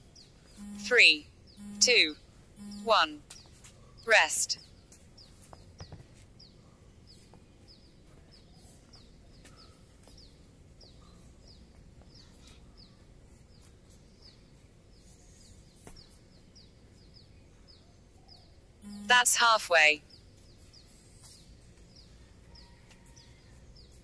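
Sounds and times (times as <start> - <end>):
bird chirping: 0.0 - 24.0
low background noise: 0.0 - 24.0.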